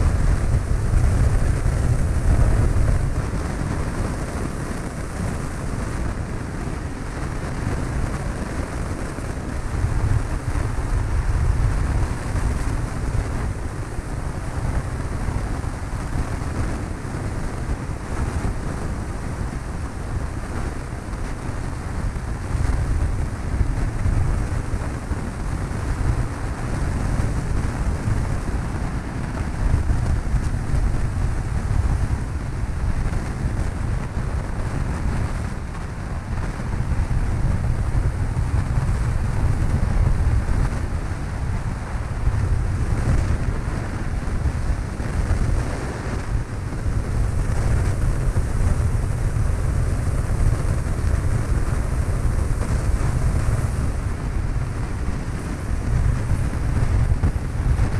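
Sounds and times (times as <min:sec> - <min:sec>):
aircraft engine and propeller drone: 0:00.0 - 0:57.9
wind noise on microphone: 0:00.0 - 0:57.9.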